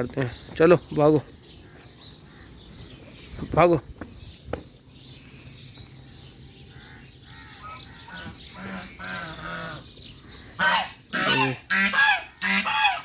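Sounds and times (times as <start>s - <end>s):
birds calling harshly: 0.0s - 13.0s.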